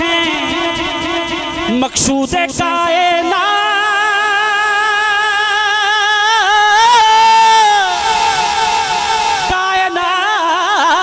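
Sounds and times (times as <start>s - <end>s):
man singing long note: 0.0s - 11.0s.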